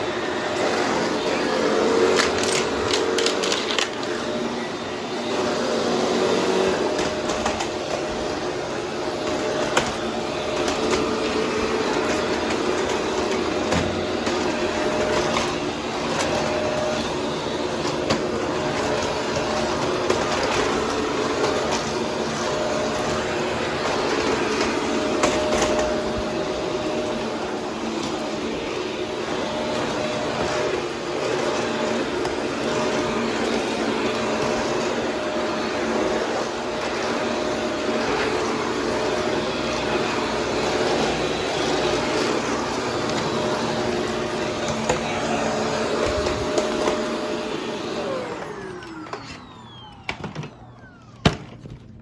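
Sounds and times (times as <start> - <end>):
vacuum cleaner motor whine: 0.0 - 52.0.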